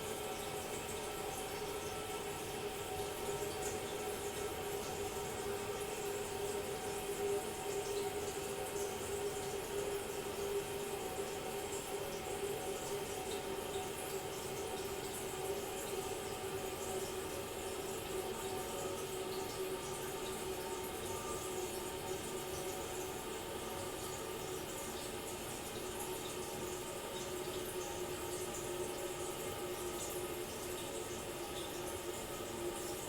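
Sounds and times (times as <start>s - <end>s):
toilet cistern refilling: 0.0s - 33.0s.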